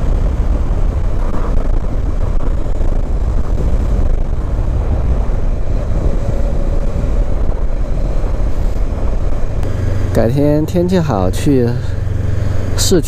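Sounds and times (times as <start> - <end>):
motorcycle engine and road noise: 0.0 - 13.0
wind rumble on microphone: 0.0 - 13.0.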